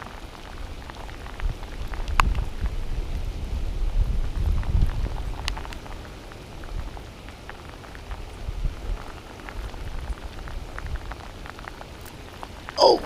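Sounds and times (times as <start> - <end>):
hard rain falling: 0.0 - 13.0.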